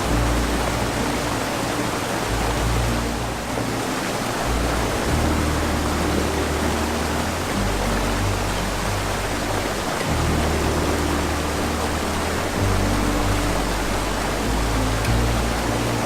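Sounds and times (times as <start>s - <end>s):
music with sustained low notes: 0.0s - 16.0s
waterfall rushing: 0.0s - 16.0s.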